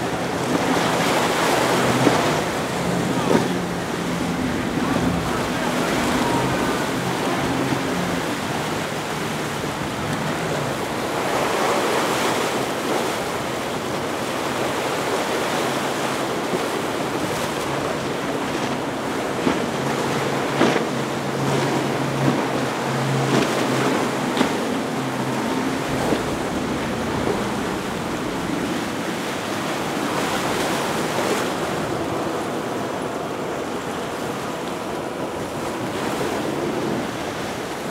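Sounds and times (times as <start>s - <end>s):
outboard engines humming: 0.0s - 37.9s
surf noise: 0.0s - 37.9s
wind: 0.0s - 37.9s.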